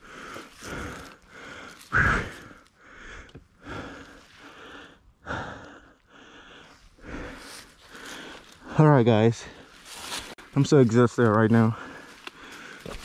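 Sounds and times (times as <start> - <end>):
man breathing hard: 0.0 - 10.4, 11.7 - 13.0.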